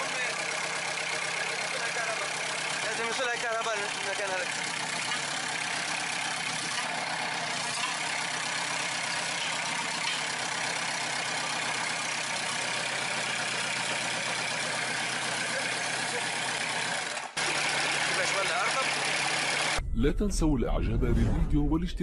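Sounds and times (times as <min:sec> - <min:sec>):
diesel engine idling: 0:00.0 - 0:19.8.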